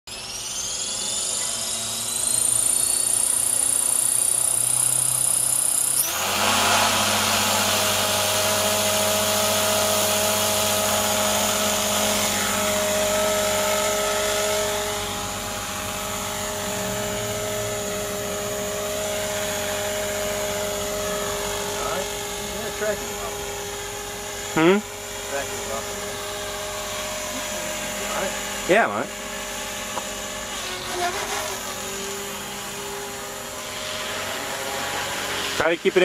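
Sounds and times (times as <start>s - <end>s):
electric motor whine: 0.1s - 36.0s
rotor hum with blade swish: 0.1s - 36.0s.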